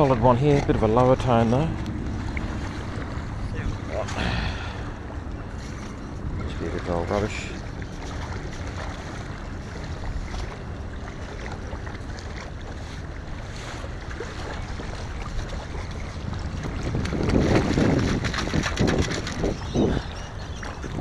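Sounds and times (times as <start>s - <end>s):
small waves washing onto sand: 0.0s - 21.0s
wind buffeting microphone: 0.0s - 21.0s.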